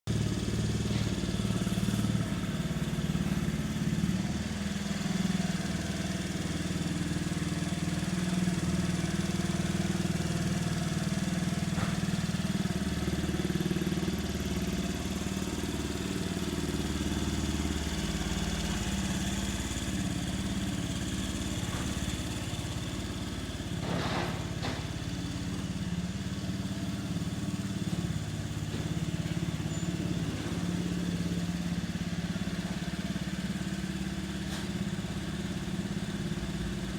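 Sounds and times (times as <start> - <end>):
scooter engine idling: 0.1 - 36.9.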